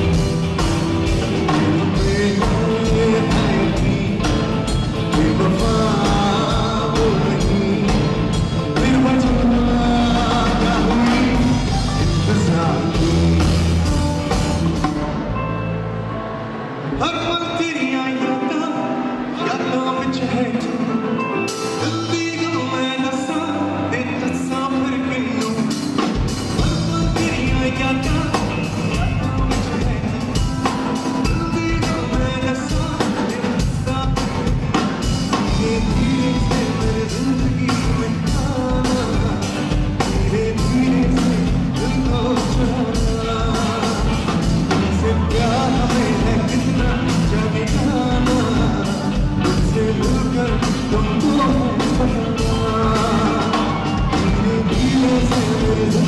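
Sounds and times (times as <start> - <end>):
man singing: 0.0 - 14.9, 16.9 - 56.0
drum kit steady beat: 0.0 - 15.4, 25.4 - 56.0
bass guitar: 0.0 - 17.7, 19.0 - 56.0
electric guitar: 0.0 - 56.0
keyboard: 0.0 - 56.0.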